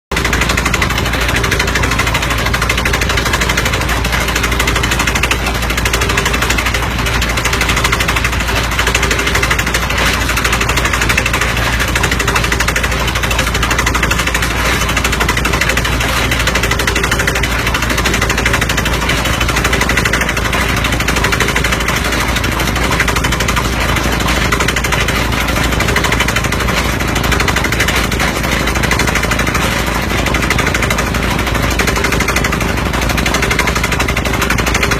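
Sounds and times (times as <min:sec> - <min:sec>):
engine drone: 0:00.1 - 0:34.9
percussion hammer pounding rock: 0:00.1 - 0:34.9.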